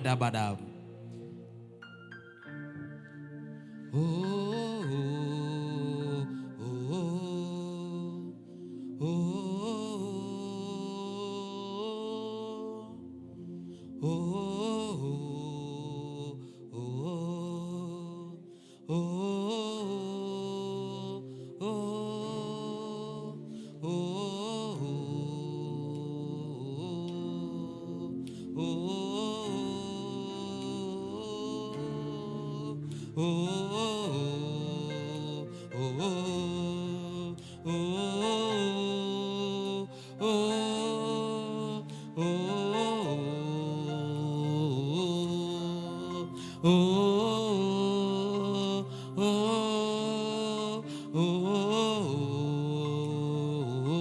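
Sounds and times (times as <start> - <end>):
person singing long sustained notes: 0.0 - 54.0.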